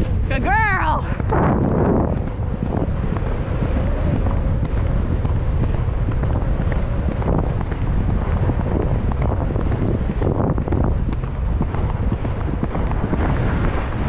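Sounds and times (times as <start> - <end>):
horse hoofbeats: 0.0 - 14.0
wind buffeting microphone: 0.0 - 14.0.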